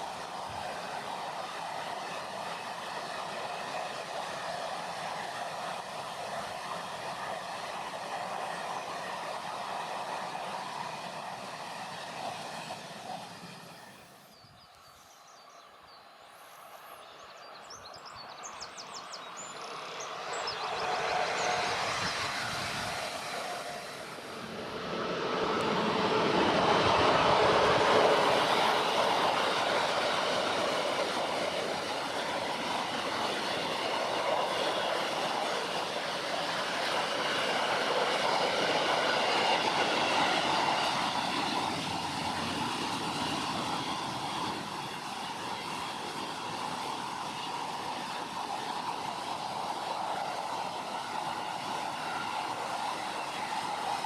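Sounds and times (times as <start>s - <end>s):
train rushing past: 0.0s - 54.0s.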